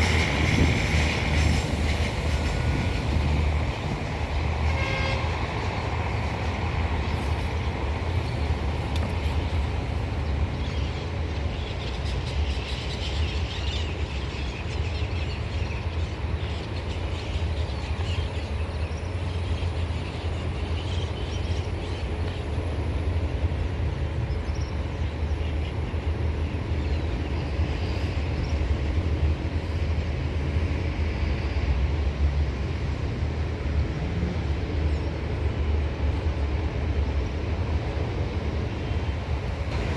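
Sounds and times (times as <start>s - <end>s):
train rumbling and rattling: 0.0s - 39.9s.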